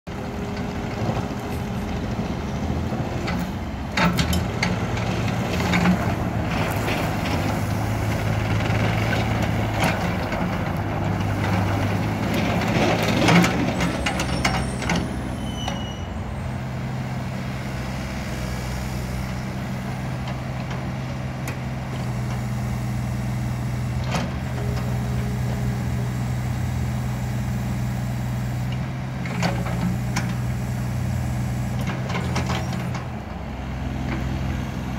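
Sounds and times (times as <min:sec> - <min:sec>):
excavator engine under load: 0:00.1 - 0:34.9.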